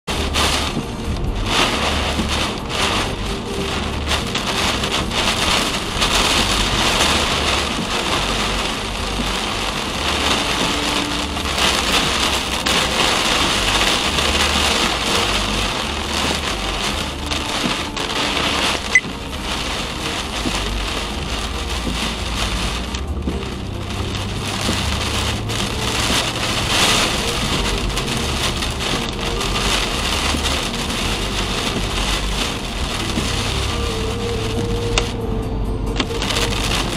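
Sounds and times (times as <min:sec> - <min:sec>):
heavy rain on car roof: 0:00.0 - 0:36.9
tyre spray and road noise: 0:00.0 - 0:36.9.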